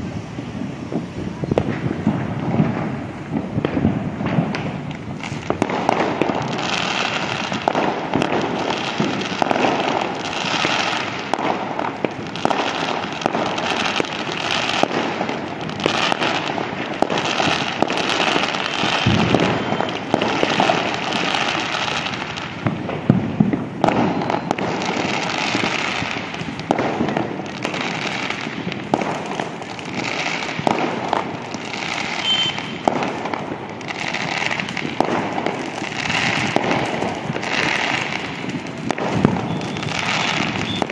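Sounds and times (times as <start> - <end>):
fireworks and firecrackers banging: 0.0 - 40.9.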